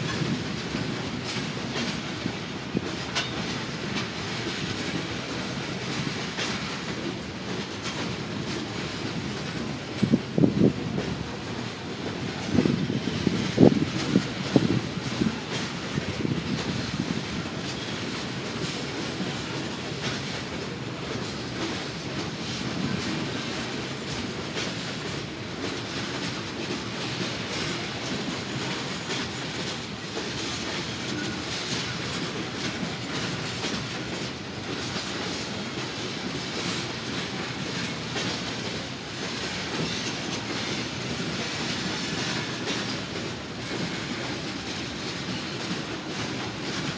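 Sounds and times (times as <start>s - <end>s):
freight train wheels clattering: 0.0s - 46.9s.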